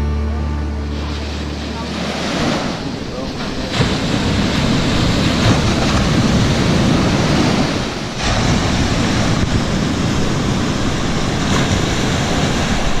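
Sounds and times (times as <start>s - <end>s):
ocean surf rushing: 0.6s - 13.0s
wind buffeting microphone: 1.4s - 13.0s.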